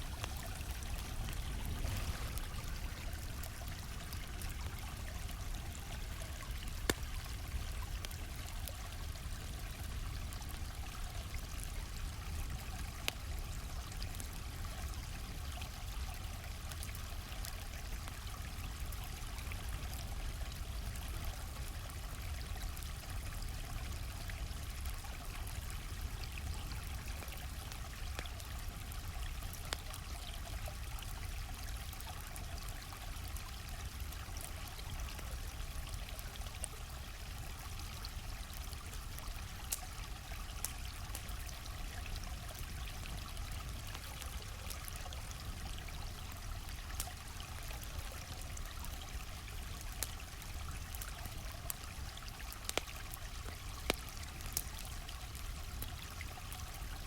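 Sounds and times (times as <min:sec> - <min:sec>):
campfire crackling and popping: 0:00.0 - 0:57.0
stream flowing: 0:00.0 - 0:57.0.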